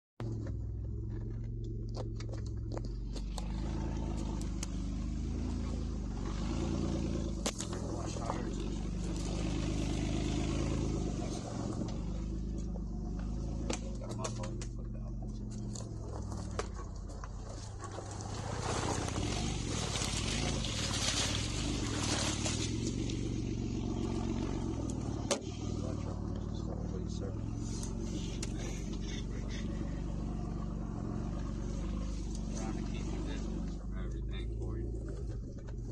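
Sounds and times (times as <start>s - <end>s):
suv engine running: 0.2s - 35.9s
tyres rushing on dirt: 0.2s - 35.9s.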